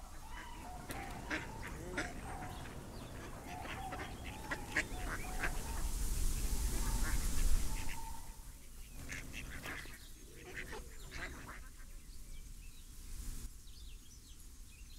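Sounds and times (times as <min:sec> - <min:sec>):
many birds calling: 0:00.0 - 0:12.2
rushing hiss with low rumble: 0:00.0 - 0:14.8.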